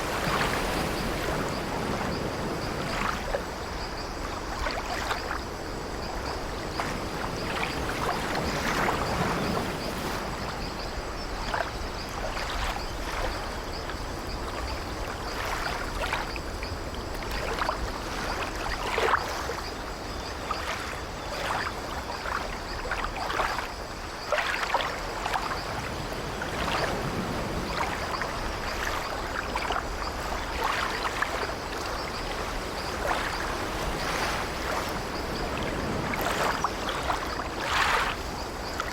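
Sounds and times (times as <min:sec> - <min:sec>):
sea waves washing: 0:00.0 - 0:19.6, 0:20.6 - 0:38.9.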